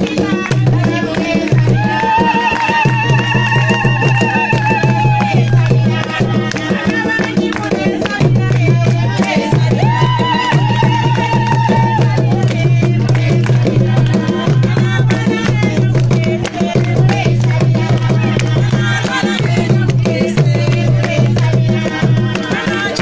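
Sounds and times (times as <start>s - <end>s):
low drum beat: 0.0s - 23.0s
women singing: 0.0s - 23.0s.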